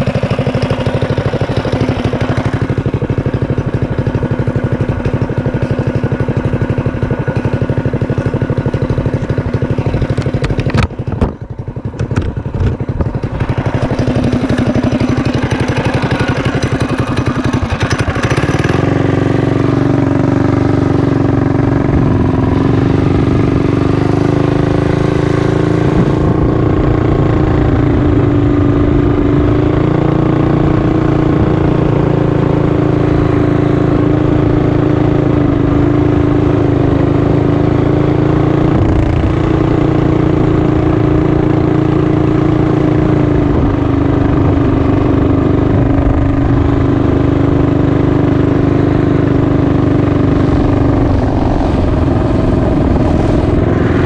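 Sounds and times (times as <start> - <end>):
mini bike engine running: 0.0 - 54.0.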